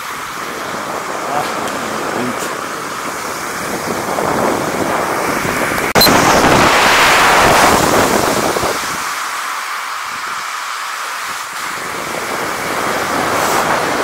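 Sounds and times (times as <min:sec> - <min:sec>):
hiss of sliding over snow: 0:00.0 - 0:05.6, 0:06.5 - 0:14.0
wind buffeting microphone: 0:00.0 - 0:09.2, 0:11.2 - 0:14.0.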